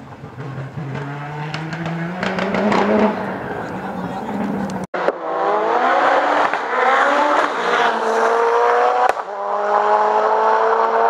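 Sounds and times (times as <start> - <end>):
race car engine accelerating: 0.0 - 11.0.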